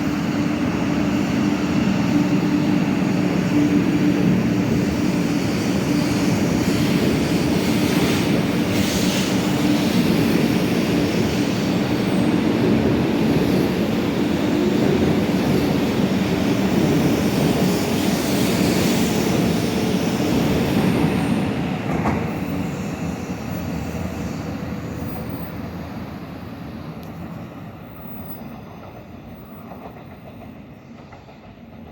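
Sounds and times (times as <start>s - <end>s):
train rumbling past: 0.0s - 31.9s.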